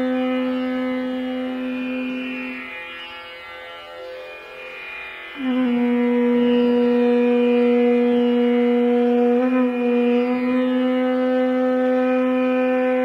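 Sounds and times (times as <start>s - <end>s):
conch shell blown: 0.0s - 3.0s, 5.3s - 13.0s.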